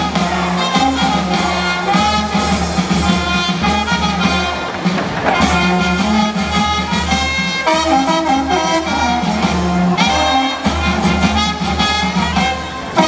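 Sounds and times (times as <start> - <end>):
brass band dance music: 0.0 - 13.0.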